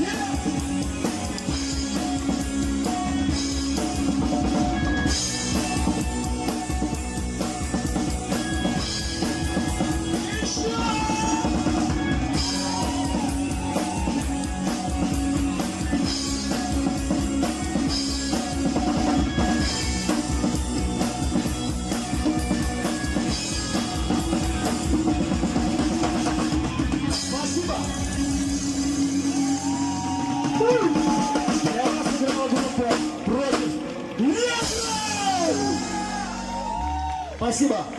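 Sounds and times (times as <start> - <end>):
rock band playing: 0.0 - 37.9.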